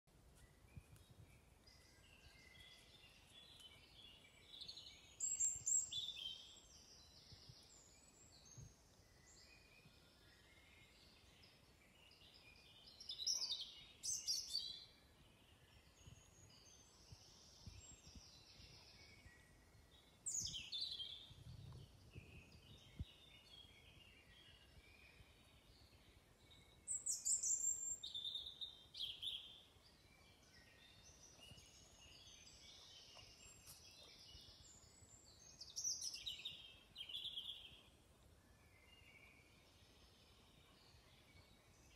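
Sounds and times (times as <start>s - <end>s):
songbirds chirping: 0.1s - 41.9s.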